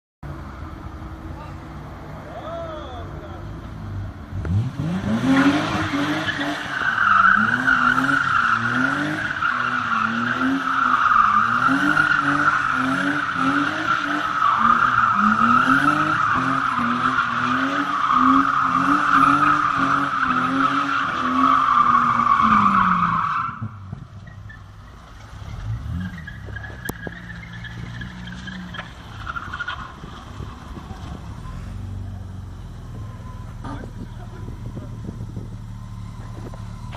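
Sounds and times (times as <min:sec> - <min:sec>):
car engine revving: 0:03.4 - 0:36.9.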